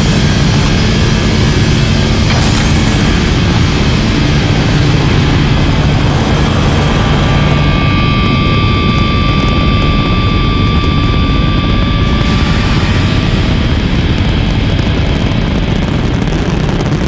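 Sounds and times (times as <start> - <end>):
rocket engine roar: 0.0 - 17.0.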